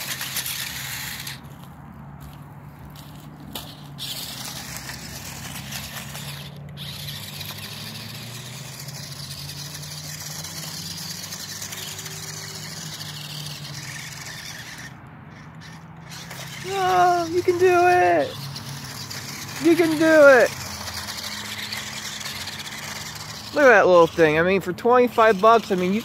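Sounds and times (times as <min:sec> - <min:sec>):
toy car electric motor whining: 0:00.0 - 0:26.0.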